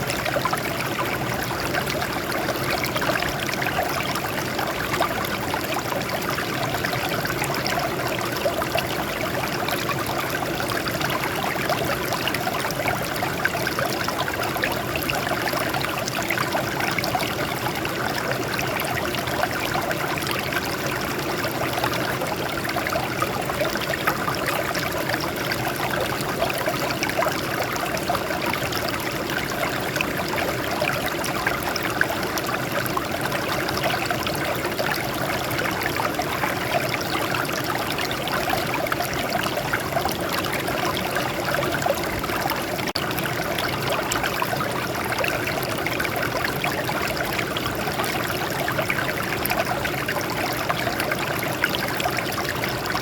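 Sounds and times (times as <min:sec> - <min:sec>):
stream water splashing over rocks: 0:00.0 - 0:53.0.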